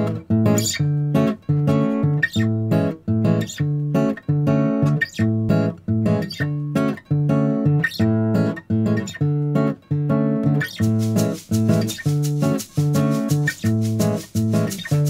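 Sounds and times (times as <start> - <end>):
bossa nova acoustic guitar: 0.0 - 15.0.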